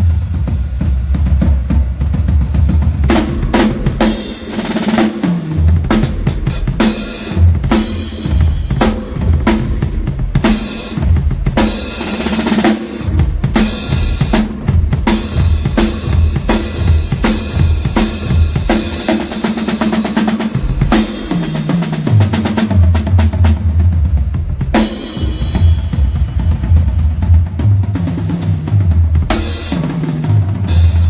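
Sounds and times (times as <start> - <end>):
drum kit playing: 0.0 - 31.0.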